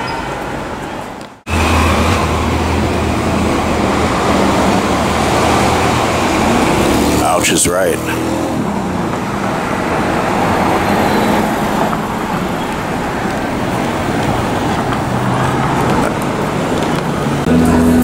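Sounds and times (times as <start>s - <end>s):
passing cars: 0.0s - 18.0s.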